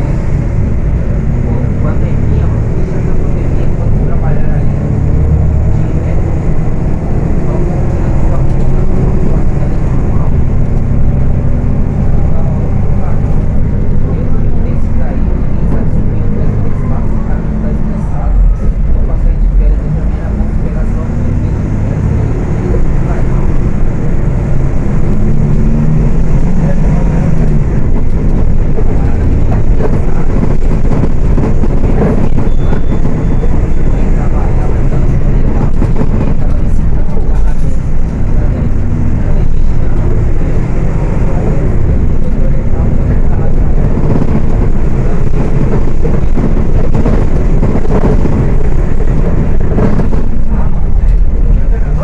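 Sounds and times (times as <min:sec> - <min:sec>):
bus diesel engine rumbling: 0:00.0 - 0:52.0.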